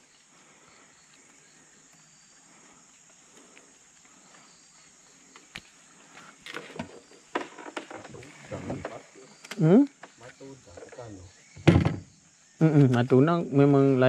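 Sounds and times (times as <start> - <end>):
faint chirps: 0.0 - 7.3, 8.0 - 14.0
insects droning: 0.0 - 14.0.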